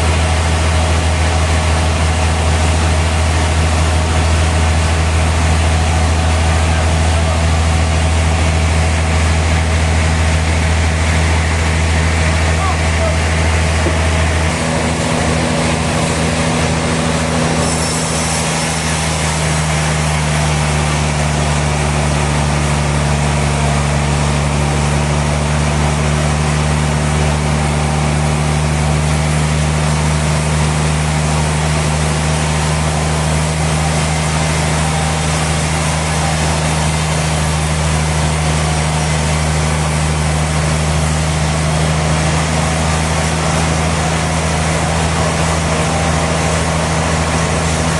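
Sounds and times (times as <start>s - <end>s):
sawmill machinery humming: 0.0s - 47.9s.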